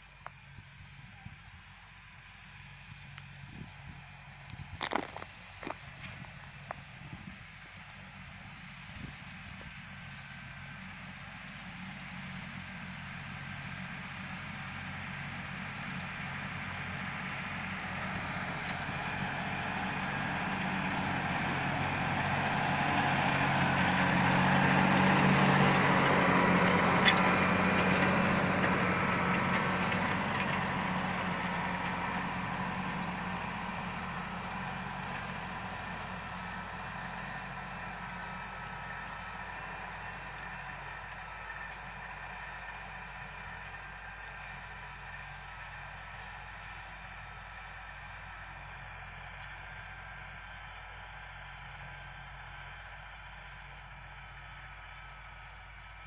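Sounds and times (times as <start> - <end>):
rush of harrow discs in soil: 0.0 - 56.0
tractor engine: 0.0 - 56.0.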